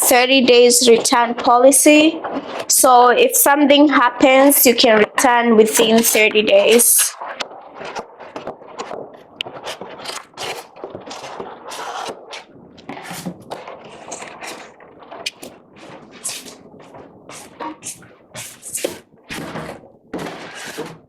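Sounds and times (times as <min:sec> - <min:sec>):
cardboard boxes scraping and rustling: 0:00.1 - 0:02.8, 0:05.8 - 0:21.0.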